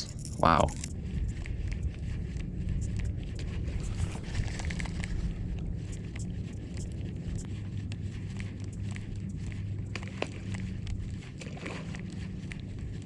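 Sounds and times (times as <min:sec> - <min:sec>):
faint clicks and ticks: 0:00.0 - 0:13.0
wind rumble on microphone: 0:00.0 - 0:13.0.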